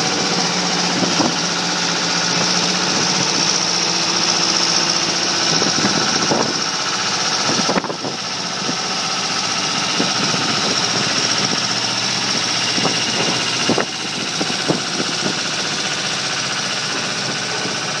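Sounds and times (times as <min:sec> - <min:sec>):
heavy transporter engine running: 0:00.0 - 0:18.0.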